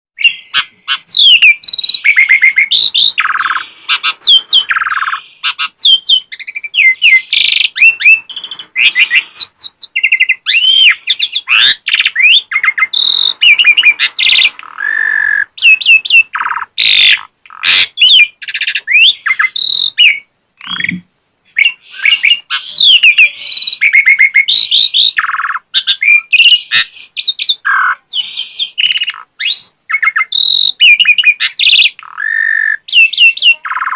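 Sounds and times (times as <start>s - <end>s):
starling singing: 0.2s - 33.9s.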